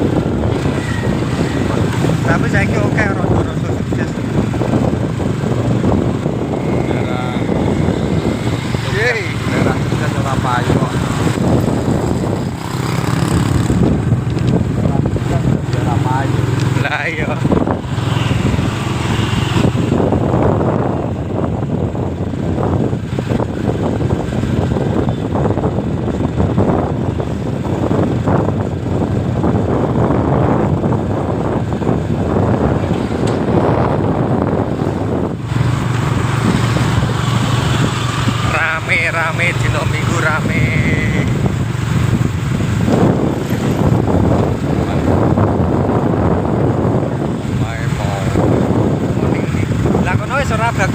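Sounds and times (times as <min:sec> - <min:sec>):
motorcycle running: 0:00.0 - 0:50.9
road noise: 0:00.0 - 0:50.9
wind rumbling on microphone: 0:00.0 - 0:50.9.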